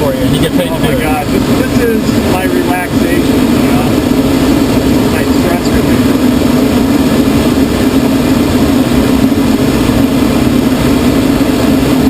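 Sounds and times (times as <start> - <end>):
constant low hum: 0.0 - 12.0
rushing airflow over canopy: 0.0 - 12.0.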